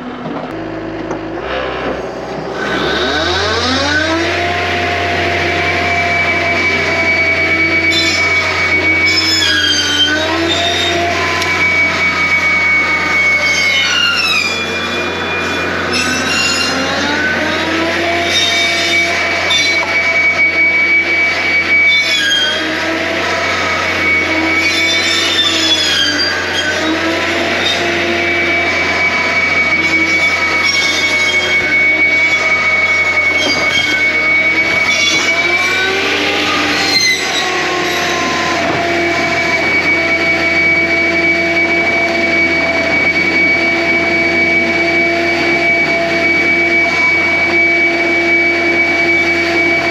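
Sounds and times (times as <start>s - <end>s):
loader engine and hydraulic whine: 0.0s - 49.9s.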